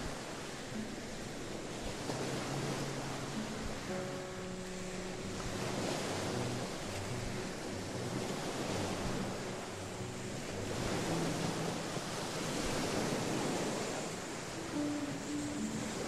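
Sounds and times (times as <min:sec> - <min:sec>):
small waves breaking on shore: 0:00.0 - 0:16.0.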